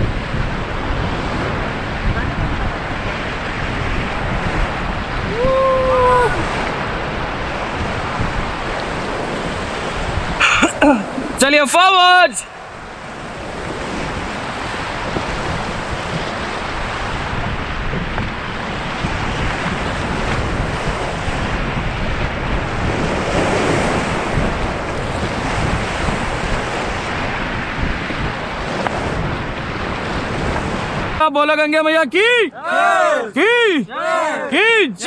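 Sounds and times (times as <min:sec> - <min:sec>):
wind rumbling on microphone: 0:00.0 - 0:31.2
rapids rushing water: 0:00.0 - 0:31.3.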